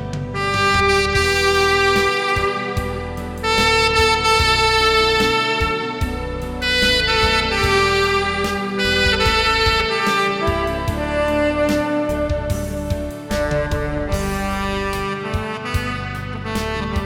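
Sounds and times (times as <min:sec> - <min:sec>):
backing accompaniment: 0:00.0 - 0:17.0
tenor saxophone slow melody: 0:00.0 - 0:17.0.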